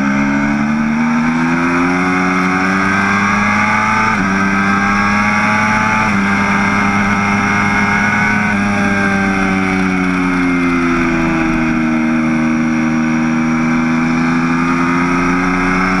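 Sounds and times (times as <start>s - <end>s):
motorcycle engine running hard: 0.0s - 16.0s.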